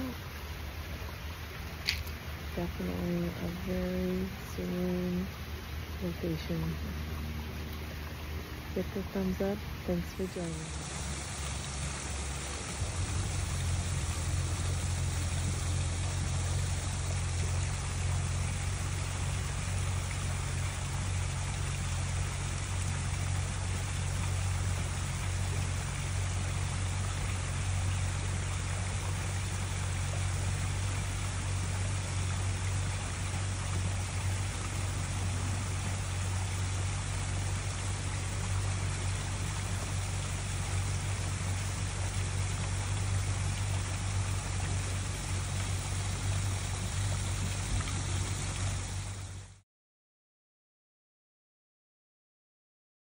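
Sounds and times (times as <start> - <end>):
steady low hum: 0.0 - 49.6
water trickling and splashing: 0.0 - 49.6.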